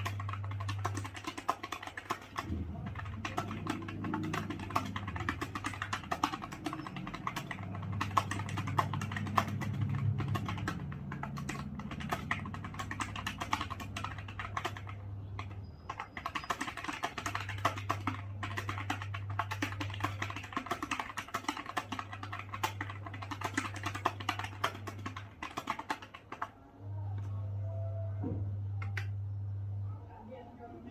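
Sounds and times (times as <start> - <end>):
fast keyboard typing: 0.0 - 26.7.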